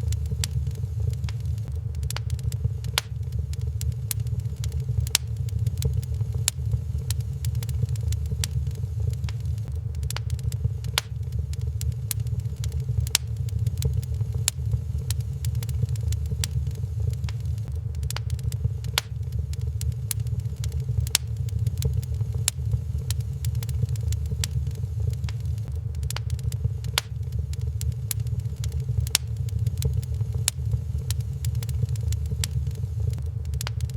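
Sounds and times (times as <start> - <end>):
steady low rumble: 0.0 - 33.9
wood fire crackling: 0.0 - 33.9.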